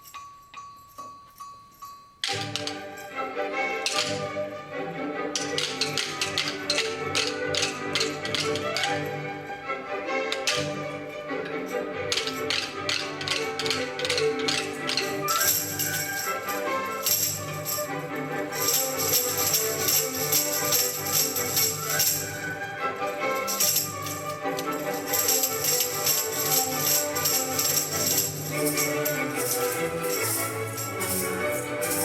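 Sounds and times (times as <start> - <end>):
bright rattling percussion: 0.0 - 32.0
music with held notes: 0.0 - 32.0.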